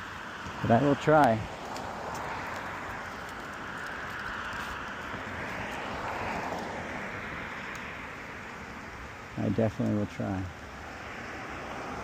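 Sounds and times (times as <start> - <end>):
vehicle passing: 0.0 - 8.4, 10.6 - 12.0
street traffic noise: 0.0 - 12.0.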